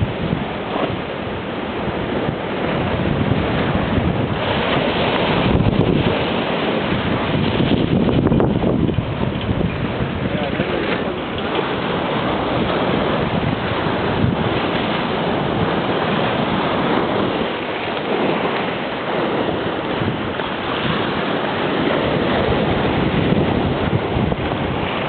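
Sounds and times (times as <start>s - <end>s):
sea waves and surf: 0.0s - 25.0s
wind rumbling on microphone: 0.0s - 25.0s.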